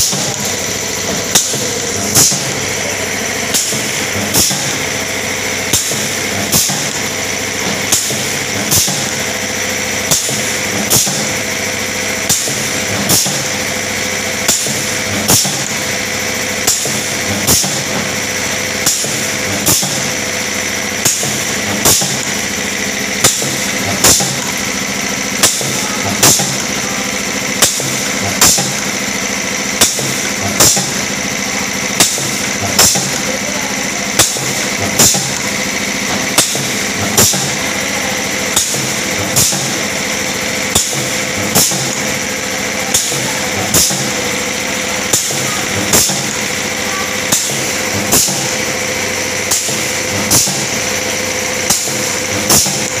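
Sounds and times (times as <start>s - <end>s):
machine hum: 0.0s - 53.0s
sharp machine clacks: 0.0s - 53.0s.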